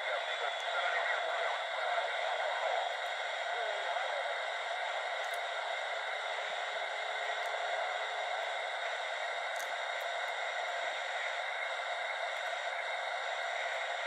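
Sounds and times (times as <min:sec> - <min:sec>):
walkie-talkie static hiss: 0:00.0 - 0:14.0.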